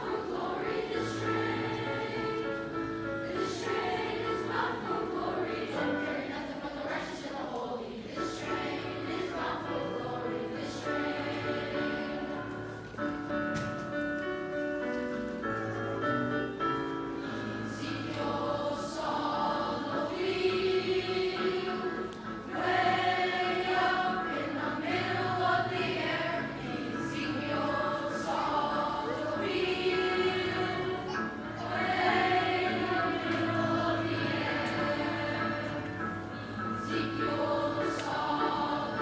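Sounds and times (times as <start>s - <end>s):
choir singing: 0.0s - 13.2s, 17.0s - 39.0s.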